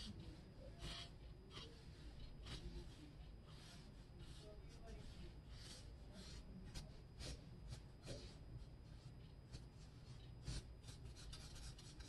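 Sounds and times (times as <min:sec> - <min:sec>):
marker scratching on paper: 0:00.0 - 0:12.0.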